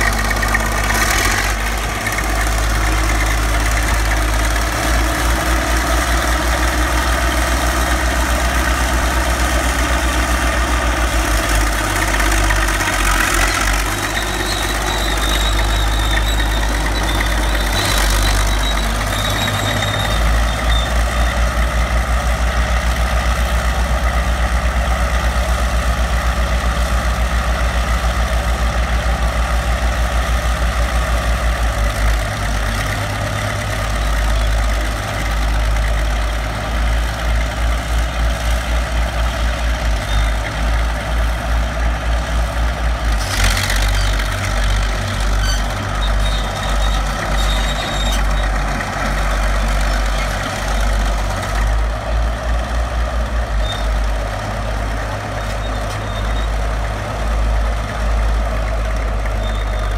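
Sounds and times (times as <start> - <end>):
diesel engine throbbing: 0.0 - 59.9.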